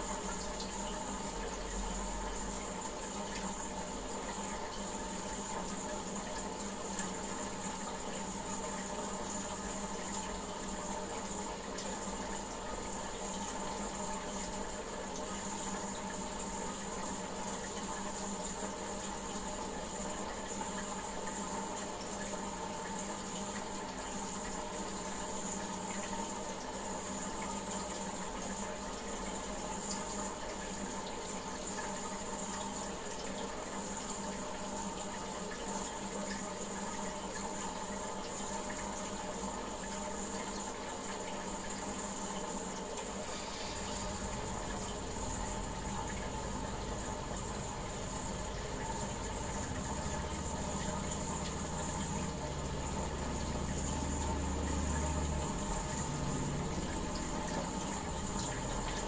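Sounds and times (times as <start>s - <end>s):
aquarium filter running water: 0.0s - 59.0s.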